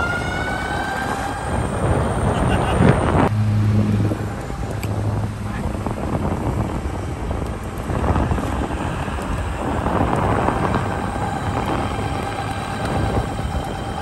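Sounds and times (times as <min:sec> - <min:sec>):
electric motor whine: 0:00.0 - 0:14.0
wind rumbling on microphone: 0:00.0 - 0:14.0.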